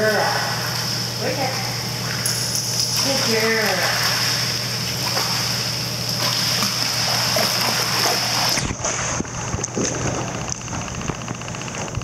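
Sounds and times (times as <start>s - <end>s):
water splashing and sloshing: 0.0s - 11.2s.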